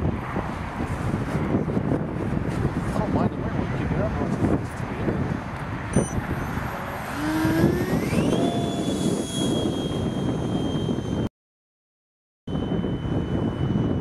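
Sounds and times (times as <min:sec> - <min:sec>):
electric ducted fan whine: 0:00.0 - 0:11.3, 0:12.5 - 0:14.0.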